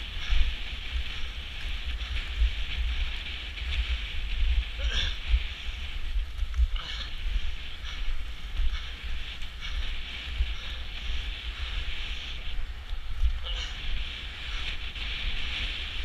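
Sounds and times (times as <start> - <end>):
skate wheels rolling on asphalt: 0.0 - 16.0
wind buffeting microphone: 0.0 - 16.0.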